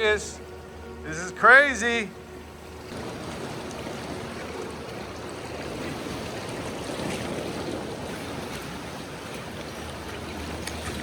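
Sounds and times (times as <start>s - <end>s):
water sloshing around kayak: 0.0s - 11.0s.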